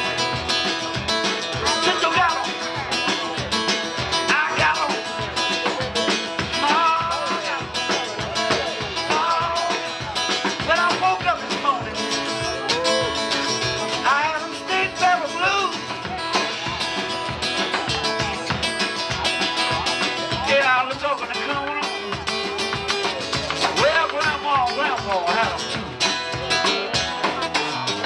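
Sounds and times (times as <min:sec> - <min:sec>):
man singing: 0:00.0 - 0:16.6, 0:19.6 - 0:25.8
acoustic guitar: 0:00.0 - 0:28.0
drum kit steady beat: 0:00.0 - 0:28.0.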